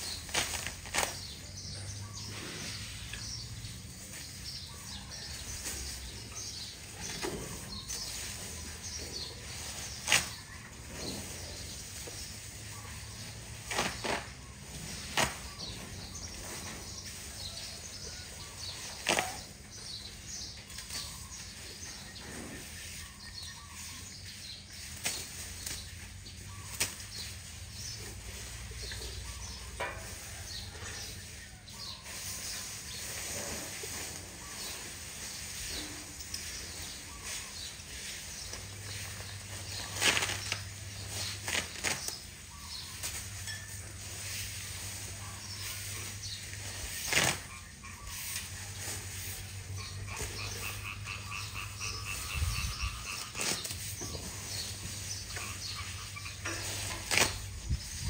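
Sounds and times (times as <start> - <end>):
rustling of grass: 0.0 - 58.0.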